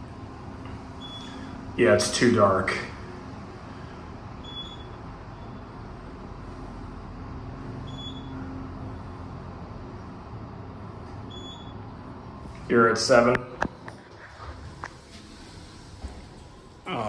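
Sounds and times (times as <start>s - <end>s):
elevator hum and rumble: 0.0s - 17.0s.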